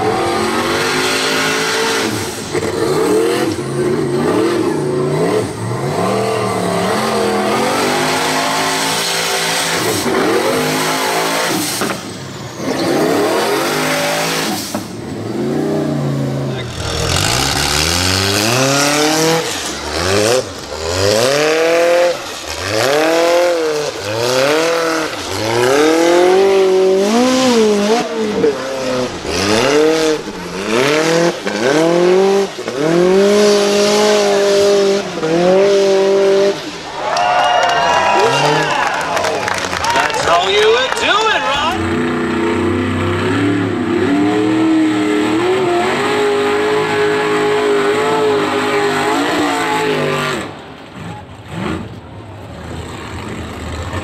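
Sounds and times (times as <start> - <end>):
racing car engines revving hard: 0.0 - 37.0, 37.9 - 54.0.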